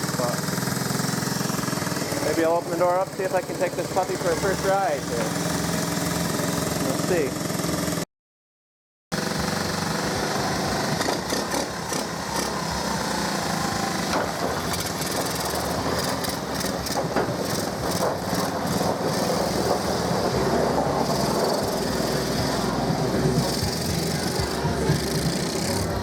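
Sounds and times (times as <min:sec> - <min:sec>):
small engine running steadily: 0:00.0 - 0:08.1, 0:09.1 - 0:26.0.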